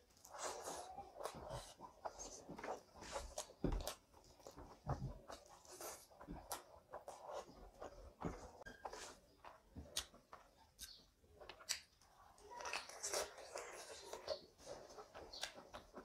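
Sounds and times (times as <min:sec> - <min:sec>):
fingers mixing rice on a plate: 0:00.0 - 0:16.0
mouth chewing: 0:00.0 - 0:16.0.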